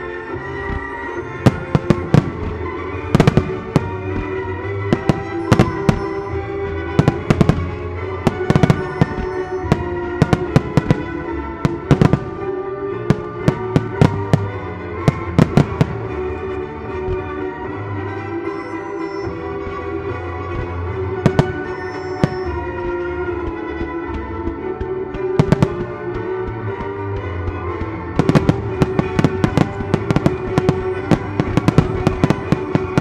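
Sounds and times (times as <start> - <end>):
fireworks bursting: 0.0 - 17.6, 20.1 - 33.0
music playing: 0.0 - 33.0.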